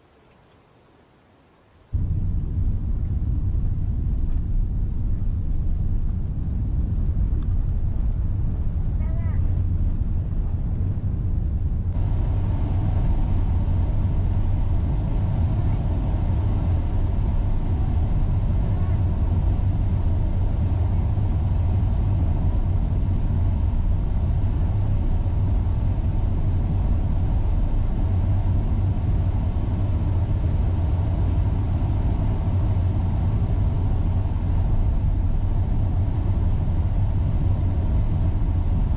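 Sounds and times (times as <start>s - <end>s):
engine and road rumble in car: 1.9s - 38.9s.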